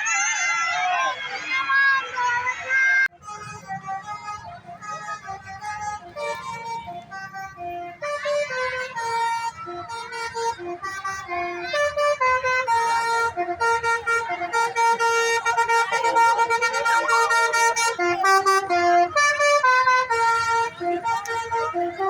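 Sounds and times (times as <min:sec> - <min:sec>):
bus musical air horn: 0:02.2 - 0:22.0.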